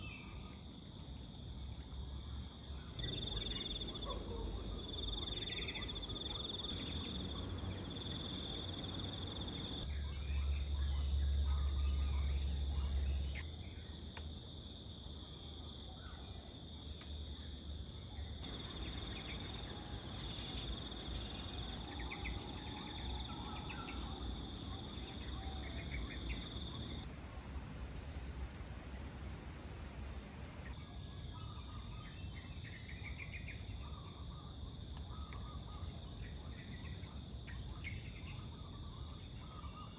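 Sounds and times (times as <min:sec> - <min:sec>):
shrill chorus of trilling insects: 0:00.0 - 0:27.0, 0:30.8 - 0:39.9.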